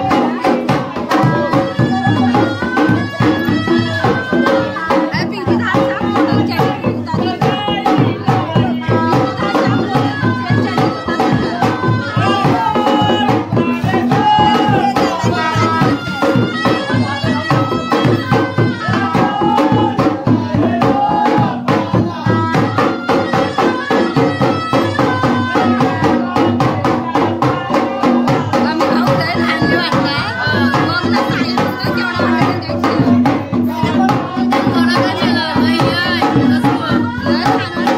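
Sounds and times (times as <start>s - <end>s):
fast steady drumming: 0.0s - 37.9s.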